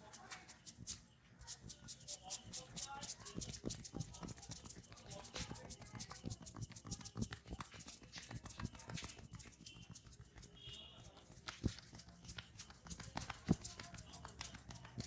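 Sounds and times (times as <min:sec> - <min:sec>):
hand slaps and taps on skin: 0:02.4 - 0:15.0.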